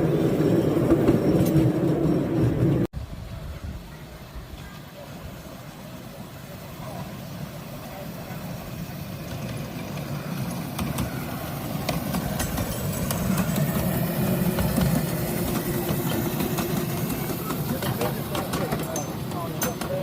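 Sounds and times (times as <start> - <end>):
wheels clicking and rattling on track: 0.0 - 2.9, 3.9 - 20.0
miniature train rumbling: 0.0 - 20.0.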